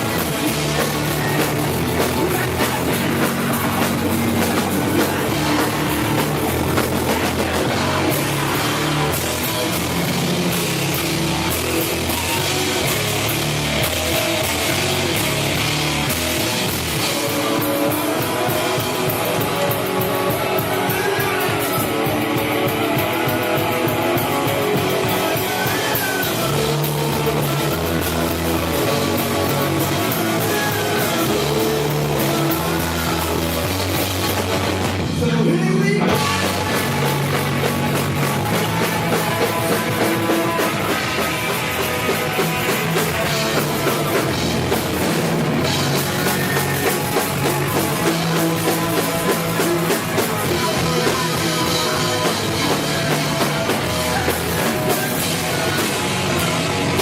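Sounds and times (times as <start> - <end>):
bass line: 0.0 - 57.0
drum kit: 0.0 - 57.0
electric guitar: 0.0 - 57.0.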